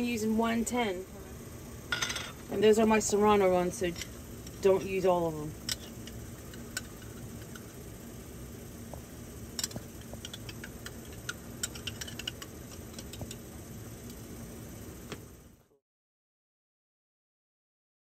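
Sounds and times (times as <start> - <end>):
gas stove hum and hiss: 0.0 - 15.8.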